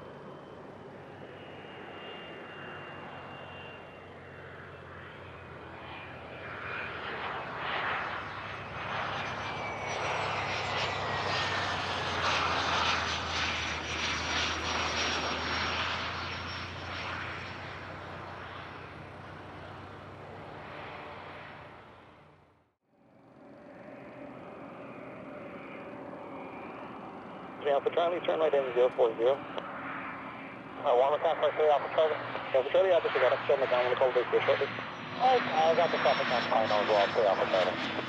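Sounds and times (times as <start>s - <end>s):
jet aircraft passing: 0.0s - 38.0s.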